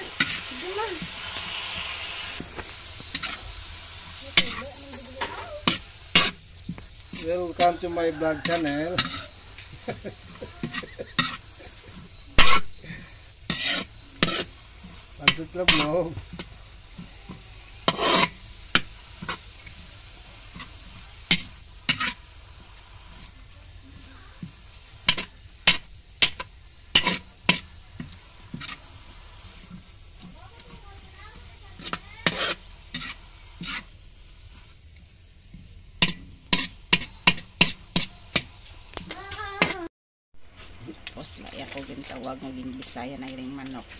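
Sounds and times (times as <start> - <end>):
utensil scraping frying pan: 0.0 - 34.8, 35.5 - 39.9
faint frying sizzle: 0.0 - 43.9.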